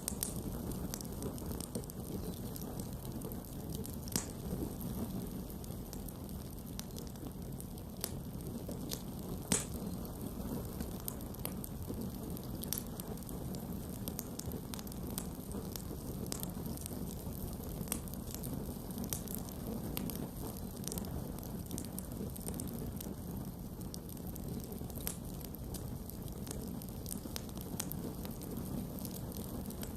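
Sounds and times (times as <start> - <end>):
wood crackling and popping: 0.0 - 29.9.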